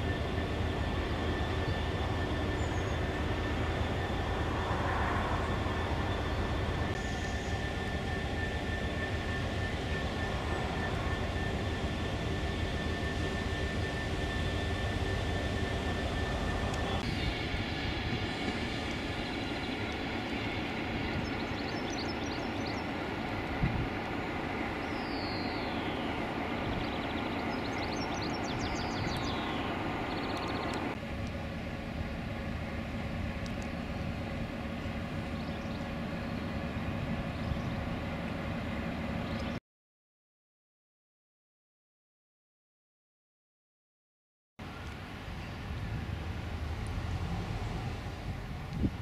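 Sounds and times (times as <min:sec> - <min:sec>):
freight train rumbling past: 0:00.0 - 0:39.6, 0:44.6 - 0:49.0.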